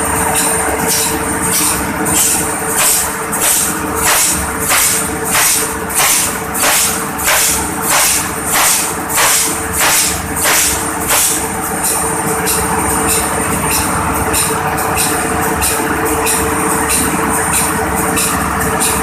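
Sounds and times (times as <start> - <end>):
marine diesel engine rumbling: 0.0 - 19.0.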